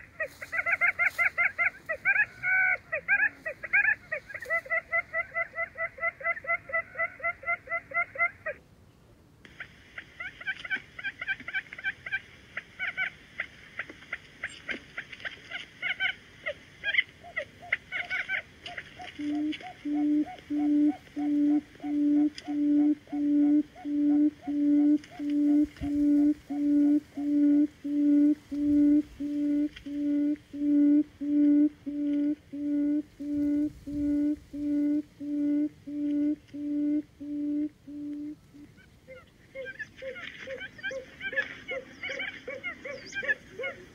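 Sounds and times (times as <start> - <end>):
quail calling: 0.0 - 8.6, 12.8 - 43.9.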